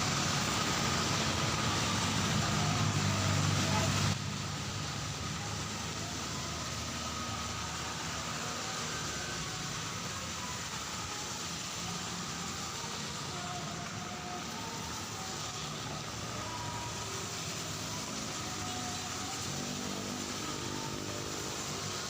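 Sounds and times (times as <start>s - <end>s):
heavy rain hissing: 0.0s - 22.0s
road traffic engines: 0.0s - 22.0s.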